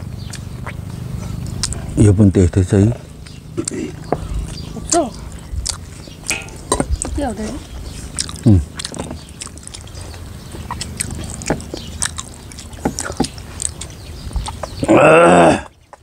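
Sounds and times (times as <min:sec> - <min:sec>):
chewing: 0:00.0 - 0:02.0, 0:03.1 - 0:14.9.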